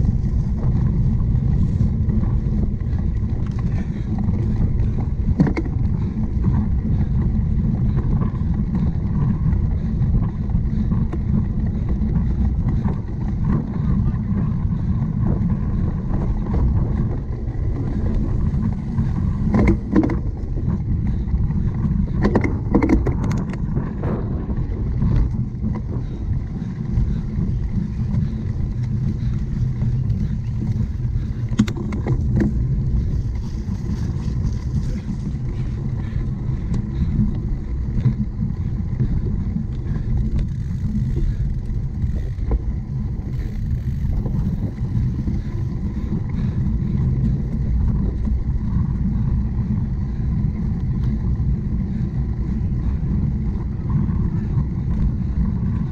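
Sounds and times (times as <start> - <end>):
bike rattles and clatters: 0.0 - 55.9
wind rumbling on microphone: 0.0 - 55.9.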